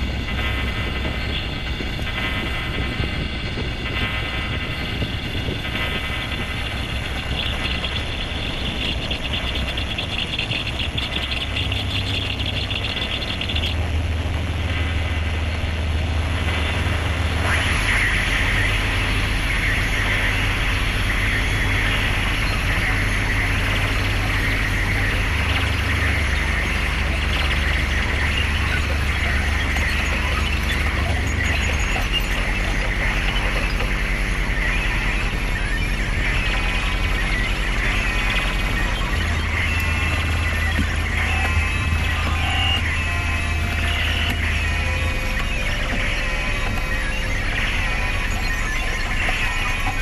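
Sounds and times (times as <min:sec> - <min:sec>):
electronic drone music: 0:00.0 - 0:50.0.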